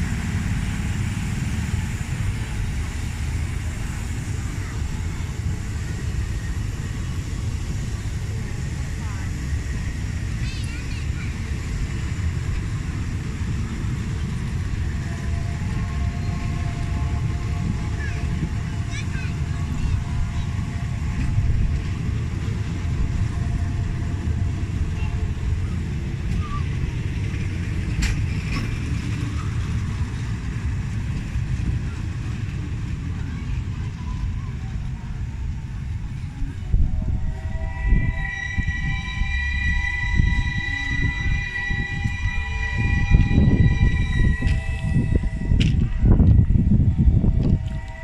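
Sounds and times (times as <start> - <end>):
faint steady tones: 0.0 - 48.0
train rumbling past: 0.0 - 48.0.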